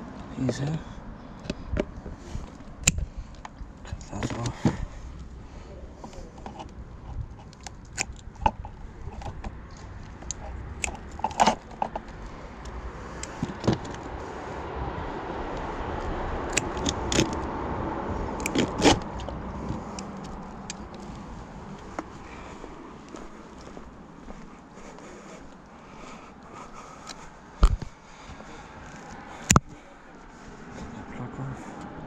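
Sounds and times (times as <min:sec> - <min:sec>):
car passing: 0:00.0 - 0:32.0.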